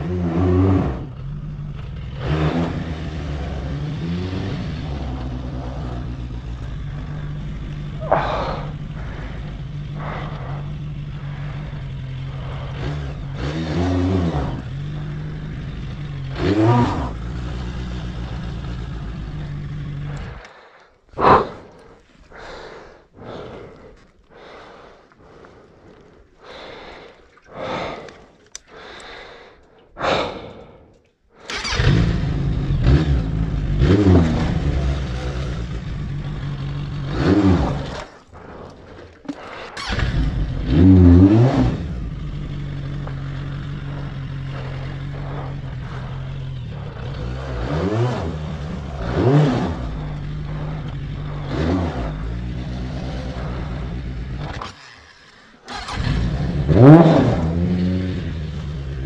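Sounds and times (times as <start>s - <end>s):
motorcycle engine idling and revving: 0.0s - 30.8s, 31.4s - 59.0s.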